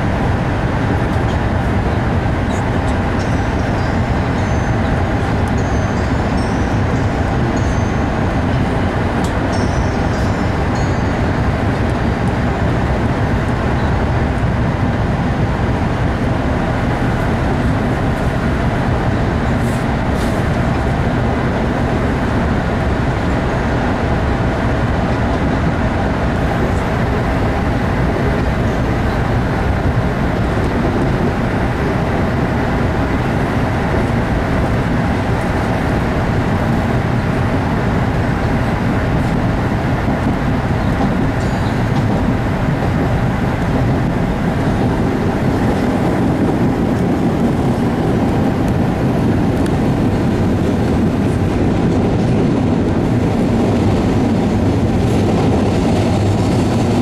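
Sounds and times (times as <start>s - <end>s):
subway wheels on rail: 0.0s - 57.0s.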